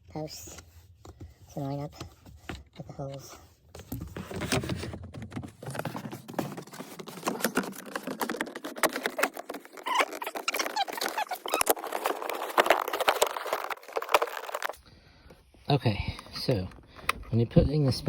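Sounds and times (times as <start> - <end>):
plastic scraping and clicking: 1.9 - 14.8, 16.1 - 18.0.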